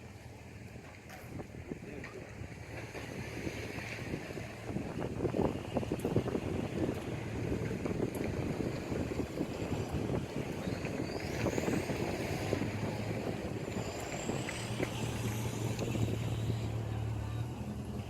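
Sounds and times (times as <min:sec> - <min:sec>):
low engine hum: 0:00.0 - 0:18.0
wind rumbling on microphone: 0:00.0 - 0:18.0.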